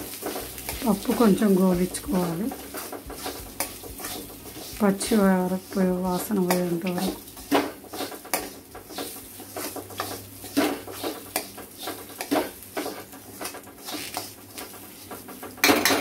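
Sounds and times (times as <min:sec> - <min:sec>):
lentils rattling against metal: 0:00.0 - 0:16.0
spoon scraping metal pan: 0:00.0 - 0:16.0.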